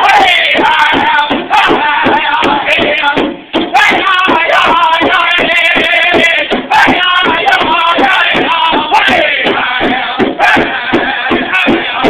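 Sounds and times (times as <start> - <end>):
big drum beating: 0.0 - 12.0
men singing in high voices: 0.0 - 12.0.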